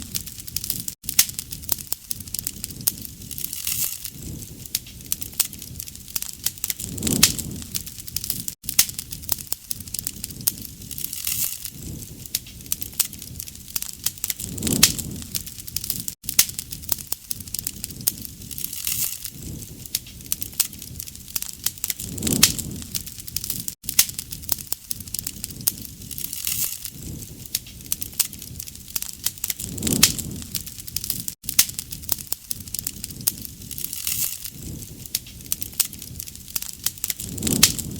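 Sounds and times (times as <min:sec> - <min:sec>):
low rush of flame: 0:00.0 - 0:37.9
sharp fire pops: 0:00.0 - 0:37.9
wood fire crackling: 0:00.0 - 0:37.9.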